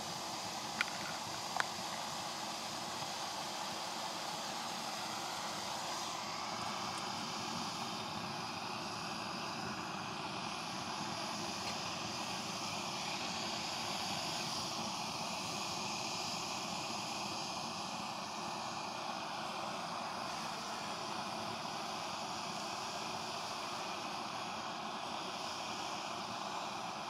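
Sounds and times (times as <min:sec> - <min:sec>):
gas stove burner hissing roar: 0:00.0 - 0:27.0.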